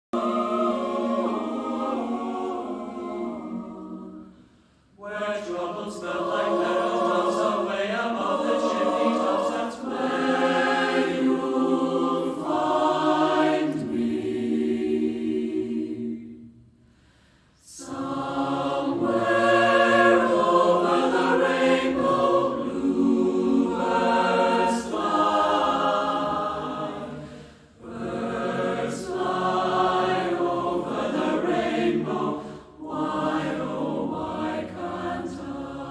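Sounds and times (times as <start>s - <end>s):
choir singing in harmony: 0.1s - 16.6s, 17.6s - 35.9s.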